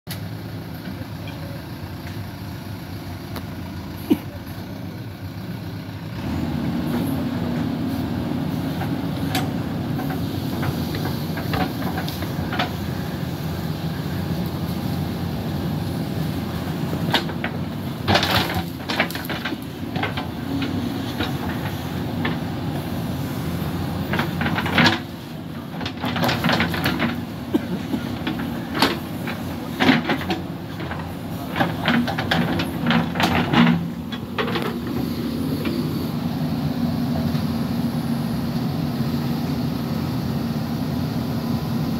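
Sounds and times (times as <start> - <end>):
diesel engine running: 0.1 - 41.9.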